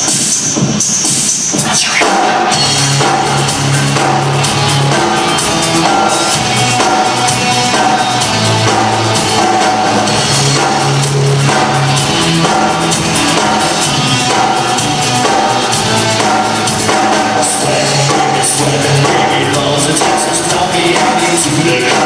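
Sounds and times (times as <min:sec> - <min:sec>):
drum kit steady beat: 0:00.0 - 0:22.0
bass line: 0:01.6 - 0:22.0.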